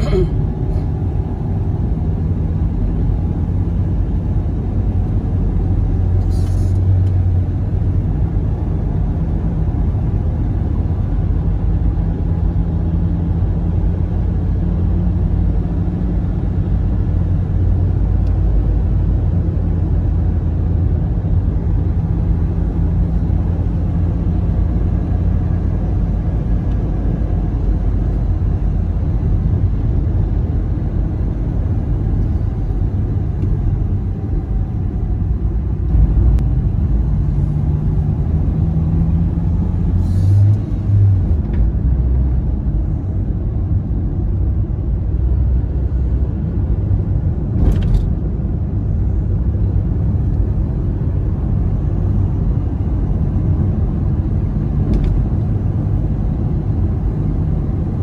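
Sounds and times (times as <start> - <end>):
car driving heard from inside: 0.0 - 58.0.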